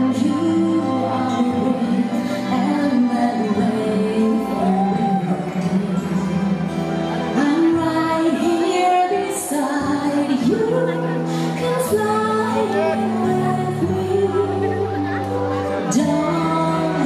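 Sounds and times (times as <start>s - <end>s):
person singing: 0.0s - 17.0s
slow waltz music: 0.0s - 17.0s.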